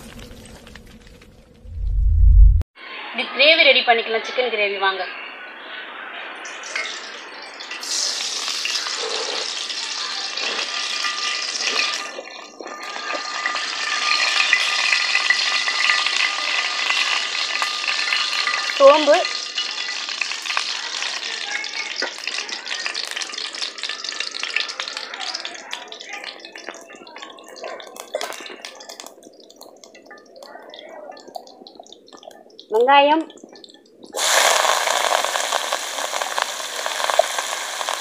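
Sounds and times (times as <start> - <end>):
oil sizzling and crackling: 0.0 - 1.8, 6.4 - 38.0
seeds frying in hot oil: 6.4 - 38.0.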